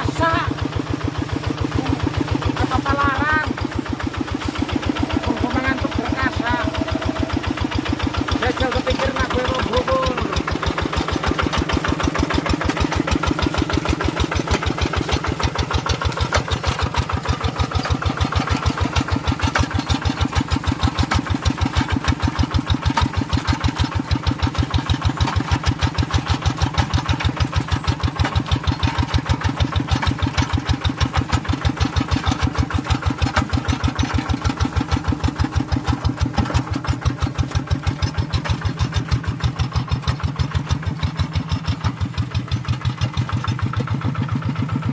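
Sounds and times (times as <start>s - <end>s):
tractor engine chugging: 0.0s - 44.9s.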